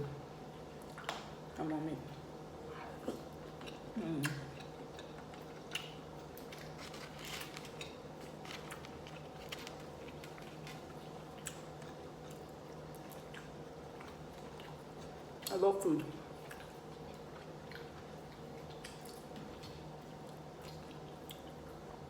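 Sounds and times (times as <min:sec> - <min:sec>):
person chewing food: 0:02.7 - 0:21.8.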